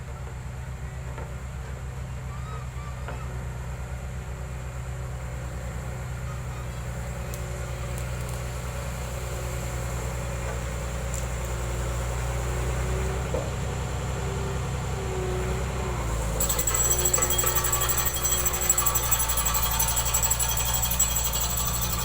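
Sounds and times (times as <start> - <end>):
heavy construction machine engine: 3.3 - 22.0.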